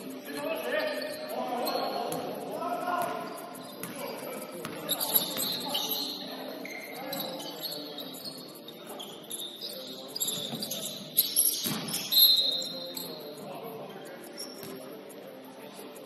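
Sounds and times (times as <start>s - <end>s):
shoes squeaking on floor: 0.0s - 13.5s, 14.2s - 15.0s
players' voices: 0.0s - 16.0s.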